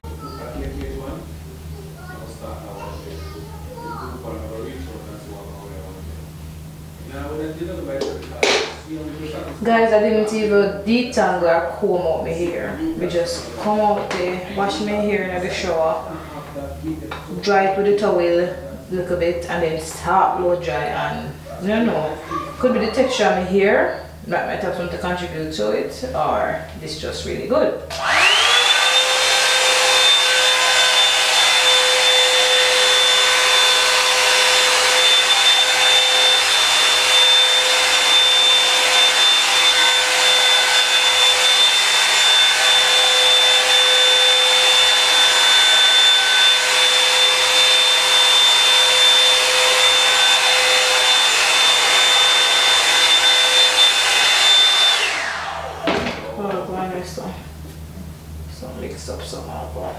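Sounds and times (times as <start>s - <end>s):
blow-dryer brush whining: 0.0s - 5.9s, 7.1s - 26.2s, 26.9s - 57.0s.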